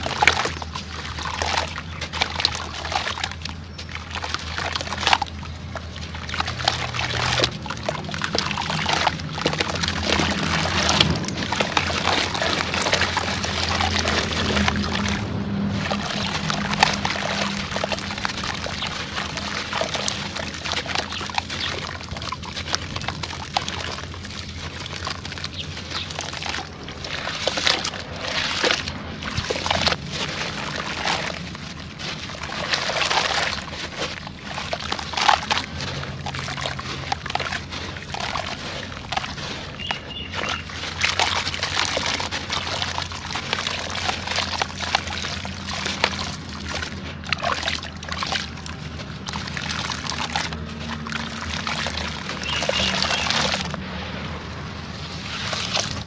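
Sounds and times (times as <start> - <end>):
grains pouring and trickling: 0.0 - 56.0
sand and cement crumbling: 0.0 - 56.0.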